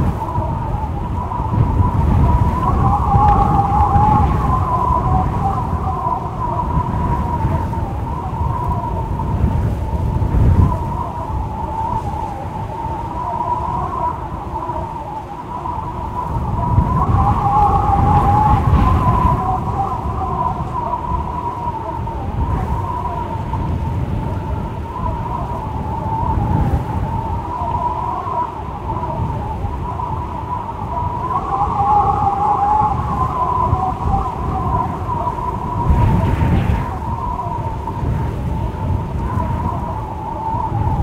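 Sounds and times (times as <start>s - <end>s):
wind howling: 0.0s - 41.0s.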